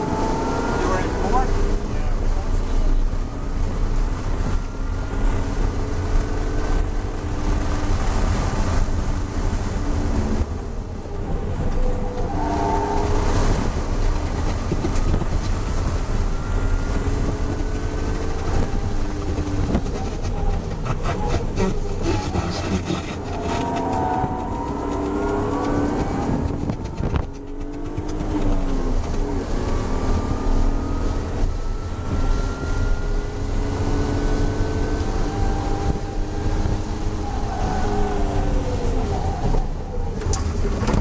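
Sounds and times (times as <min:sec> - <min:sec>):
car engine accelerating: 0:00.0 - 0:41.0
road and wind rumble: 0:00.0 - 0:41.0.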